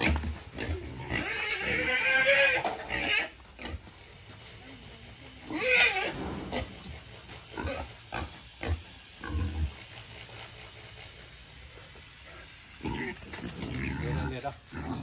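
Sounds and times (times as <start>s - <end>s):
wild boar squealing and grunting: 0.0s - 15.0s.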